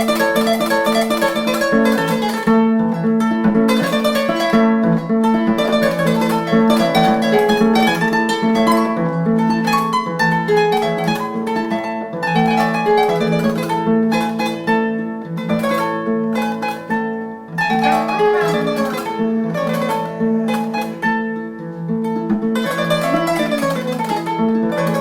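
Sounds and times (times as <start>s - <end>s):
plucked string music: 0.0s - 25.0s.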